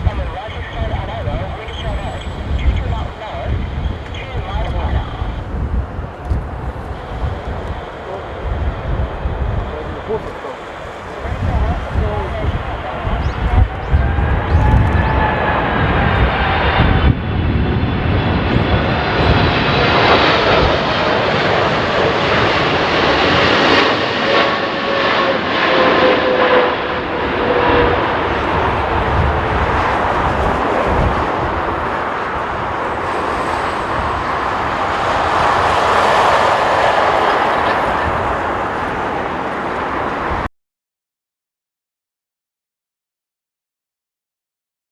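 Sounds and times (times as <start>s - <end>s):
jet airliner passing low: 0.0s - 40.5s.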